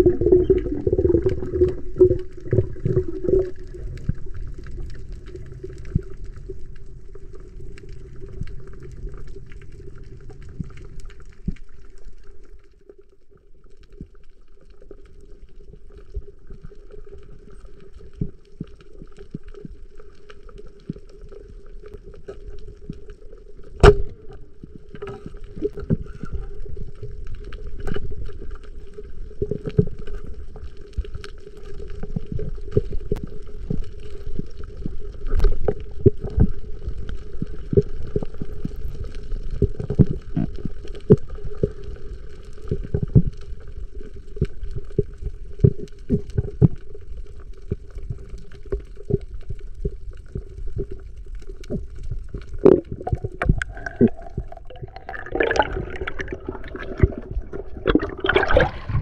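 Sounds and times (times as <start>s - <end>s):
underwater rumbling: 0.0s - 59.0s.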